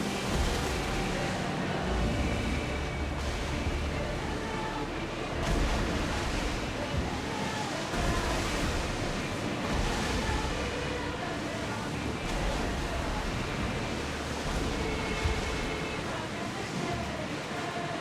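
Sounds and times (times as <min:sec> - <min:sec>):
sea waves: 0:00.0 - 0:18.0
ship low rumble: 0:00.0 - 0:18.0
wind: 0:00.0 - 0:18.0.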